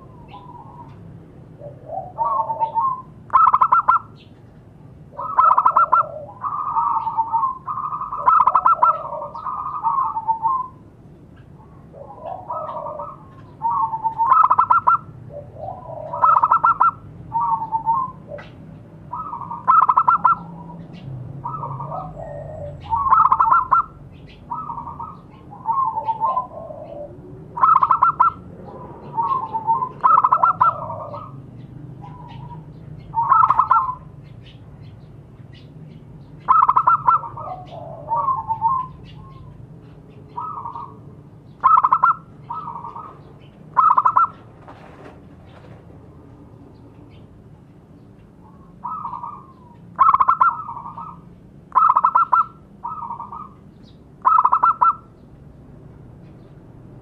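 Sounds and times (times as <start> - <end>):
dove cooing: 0.0 - 4.2, 5.1 - 34.2, 36.4 - 45.8, 48.4 - 53.6, 54.2 - 55.1.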